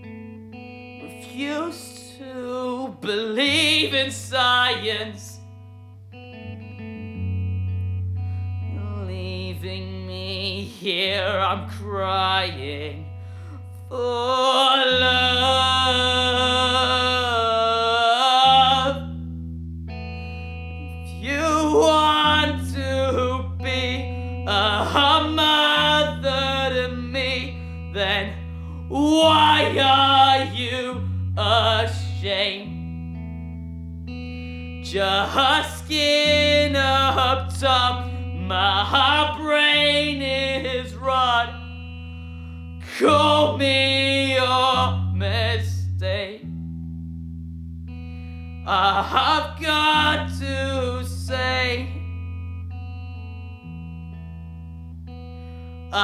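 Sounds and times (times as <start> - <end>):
bass guitar: 0.0 - 56.0
electric guitar: 0.0 - 56.0
person singing: 0.8 - 5.6, 6.7 - 19.3, 20.2 - 33.2, 34.2 - 46.6, 48.4 - 54.3, 55.2 - 56.0.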